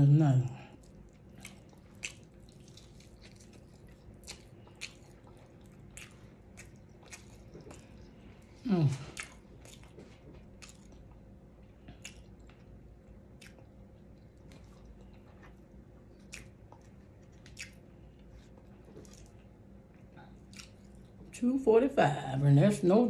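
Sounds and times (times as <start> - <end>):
person chewing food: 0.5 - 21.3.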